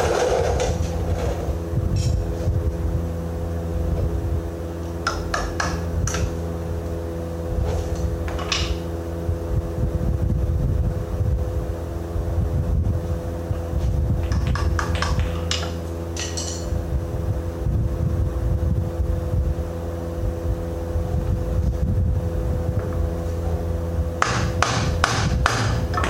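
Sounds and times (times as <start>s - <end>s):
low machine drone: 0.0s - 26.0s.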